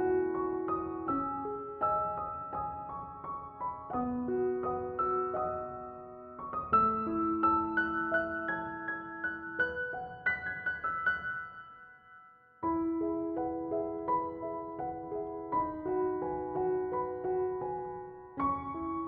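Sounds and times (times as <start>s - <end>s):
gentle solo piano: 0.0s - 19.0s.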